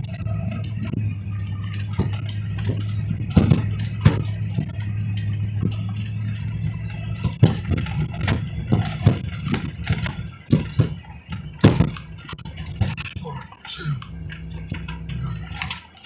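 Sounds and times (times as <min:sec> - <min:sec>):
truck engine running: 0:00.0 - 0:16.0
truck knocks and clunks: 0:00.0 - 0:16.0.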